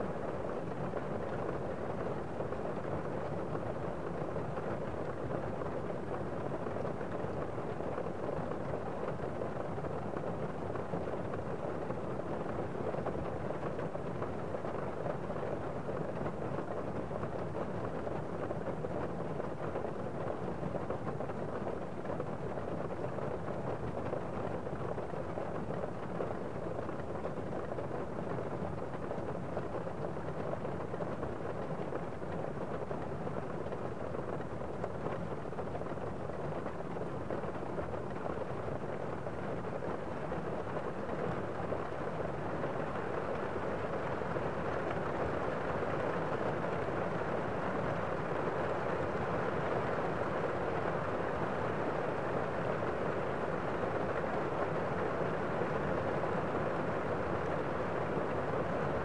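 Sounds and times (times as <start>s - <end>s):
steady muffled rain: 0.0s - 59.0s.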